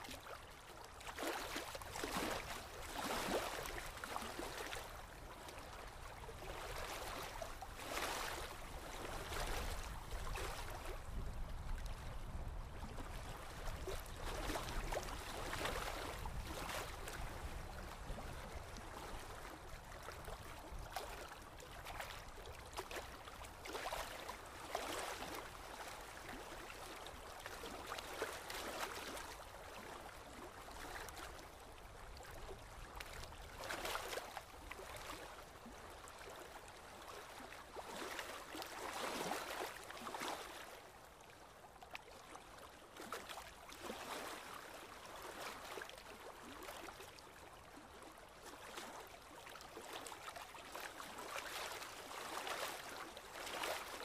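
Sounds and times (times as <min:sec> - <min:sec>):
brook babbling: 0:00.0 - 0:54.0.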